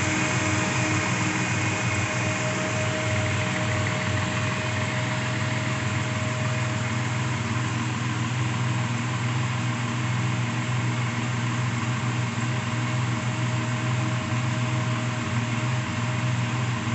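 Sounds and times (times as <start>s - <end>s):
pickup engine idling: 0.0s - 16.9s.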